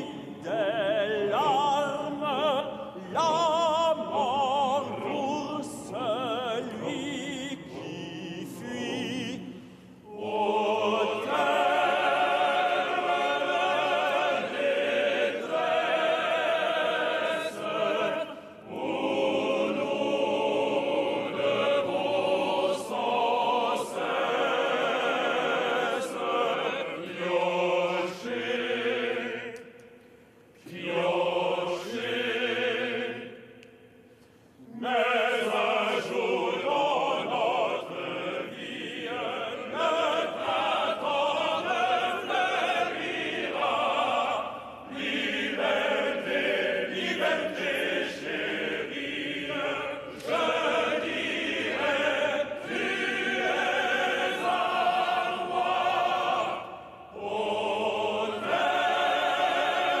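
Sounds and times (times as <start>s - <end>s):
classical singing with vibrato: 0.0s - 30.0s, 30.6s - 34.0s, 34.6s - 60.0s.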